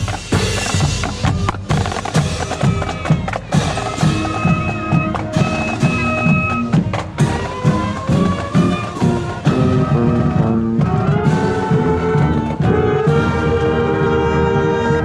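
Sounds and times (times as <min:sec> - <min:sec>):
held brass notes: 0:00.0 - 0:15.0
marching drum strokes: 0:00.0 - 0:15.0.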